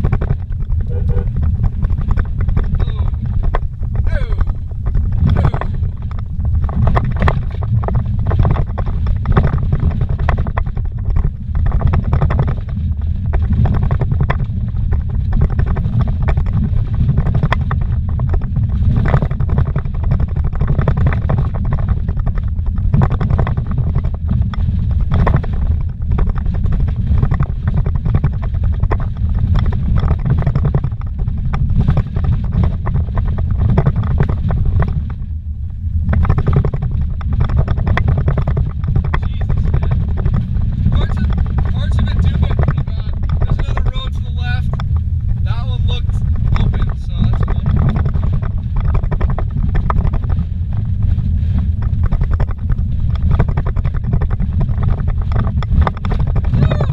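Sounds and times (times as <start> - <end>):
engine and tyres rumbling: 0.0 - 56.9
vehicle knocks and rattles: 0.0 - 56.9.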